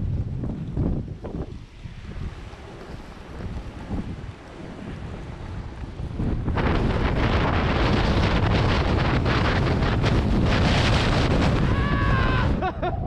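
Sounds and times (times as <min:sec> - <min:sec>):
snowboard sliding over snow: 0:00.0 - 0:13.0
wind buffeting microphone: 0:00.0 - 0:13.0.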